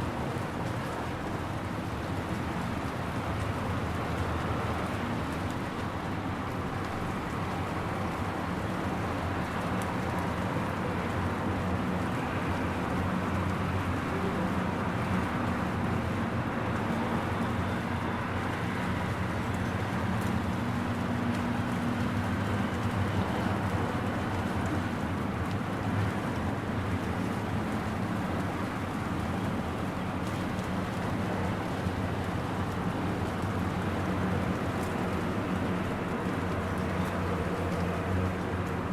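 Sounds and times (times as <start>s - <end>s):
steady rain falling: 0.0s - 38.9s
vehicle traffic rumble: 0.0s - 38.9s.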